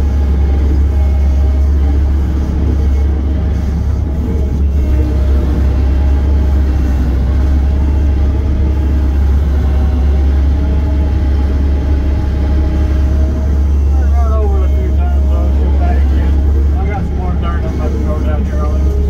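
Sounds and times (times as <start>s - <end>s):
heavy machinery diesel engine running: 0.0s - 19.0s.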